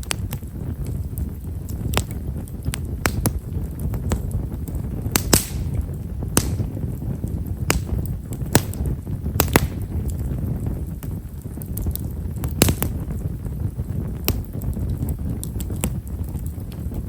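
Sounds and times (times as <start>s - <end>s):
firewood crackling in bonfire: 0.0s - 17.0s
low fire rumble: 0.0s - 17.0s.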